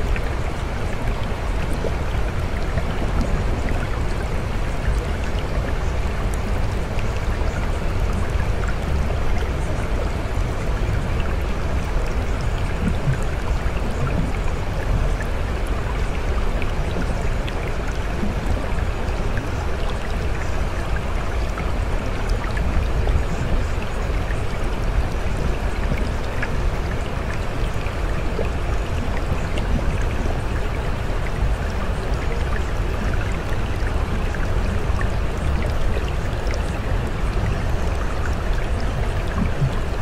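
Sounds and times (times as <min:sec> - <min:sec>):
running water rushing: 0:00.0 - 0:40.0.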